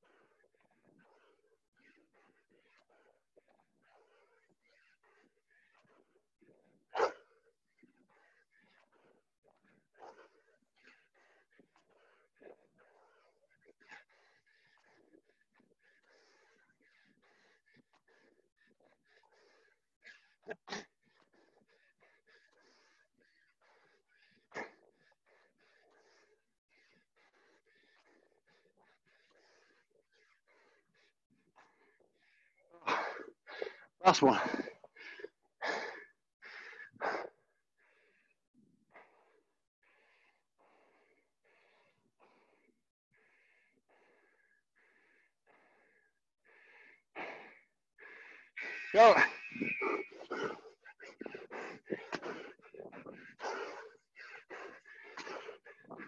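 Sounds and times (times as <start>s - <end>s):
heavy breathing from exercise: 8.0s - 56.0s.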